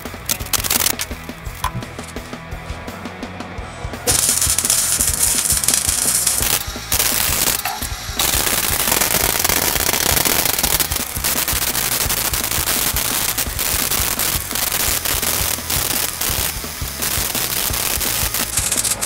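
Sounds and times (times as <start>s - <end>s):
welder arc crackling: 0.0s - 1.7s, 4.1s - 19.0s.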